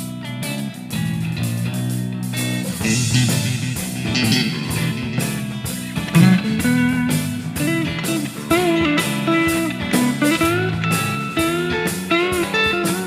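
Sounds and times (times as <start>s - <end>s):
guitar-led song with beat: 0.0s - 13.0s.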